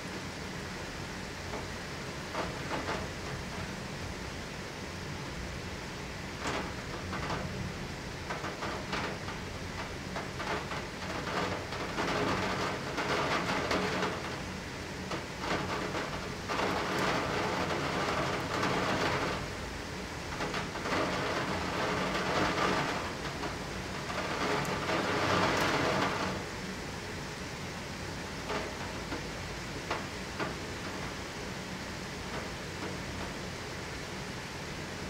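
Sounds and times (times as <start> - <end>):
heavy rain: 0.0 - 35.0
raindrops ticking on glass: 1.4 - 27.2, 28.2 - 34.2.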